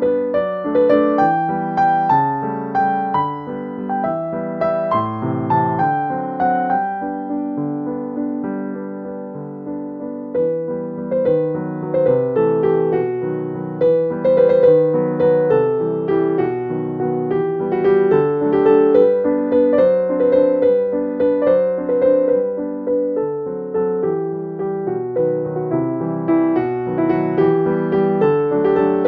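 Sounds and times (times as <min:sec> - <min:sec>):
gentle piano melody: 0:00.0 - 0:29.0.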